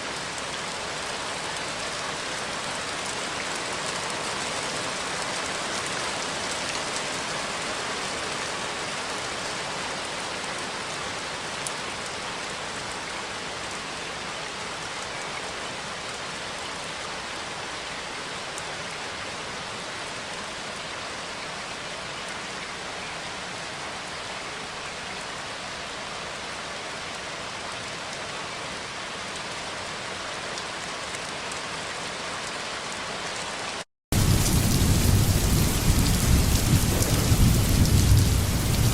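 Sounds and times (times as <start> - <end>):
louder deeper rain: 0.0 - 38.9
steady rain falling: 0.0 - 38.9.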